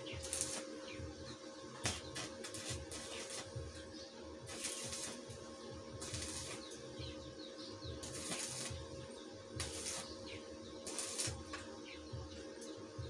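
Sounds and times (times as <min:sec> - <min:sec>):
arc welding hiss: 0:00.0 - 0:12.8
small birds chirping: 0:00.0 - 0:13.0.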